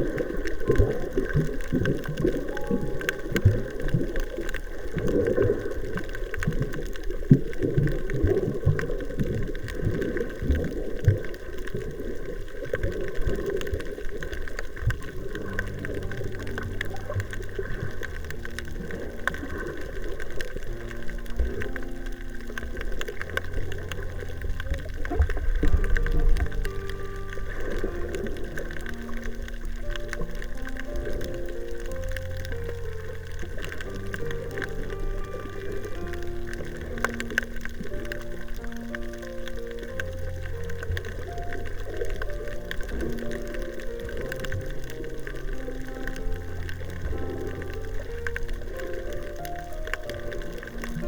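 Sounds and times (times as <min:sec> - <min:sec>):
underwater gurgling bubbling water: 0:00.0 - 0:51.0.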